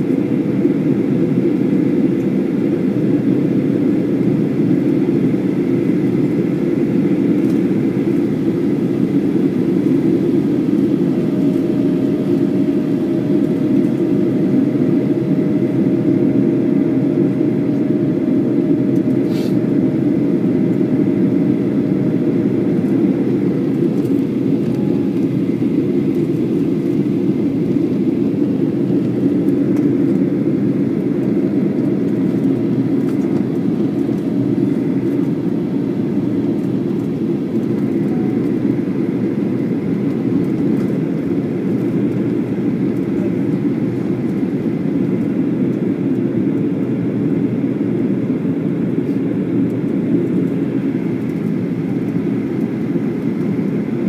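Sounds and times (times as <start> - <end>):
jet airliner cabin noise: 0.0 - 54.0.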